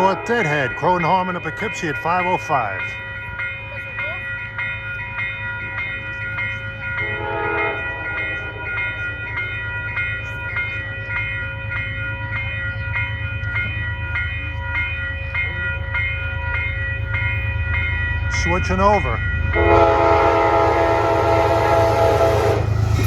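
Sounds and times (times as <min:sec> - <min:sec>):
crossing bell ringing: 0:00.0 - 0:23.0
train passing rumble: 0:00.0 - 0:23.0.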